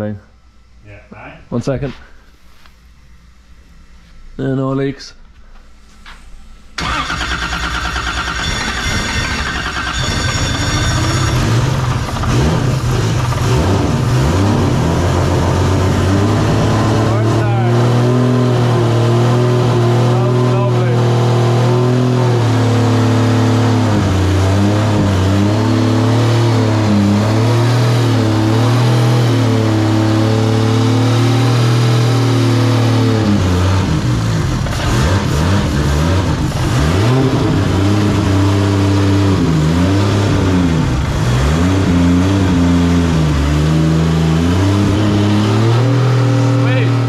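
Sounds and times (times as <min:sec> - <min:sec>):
car engine revving: 0:06.8 - 0:47.0.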